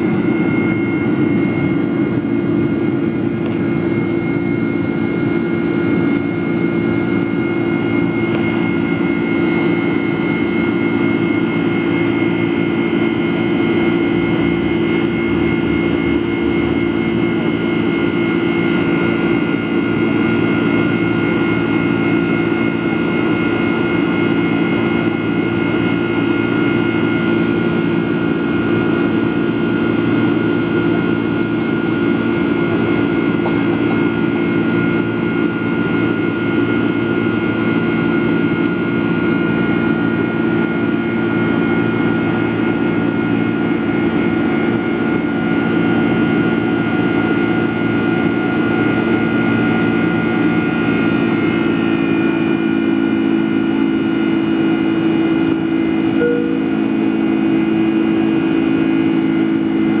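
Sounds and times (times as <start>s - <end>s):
jet engines droning in cabin: 0.0s - 60.0s.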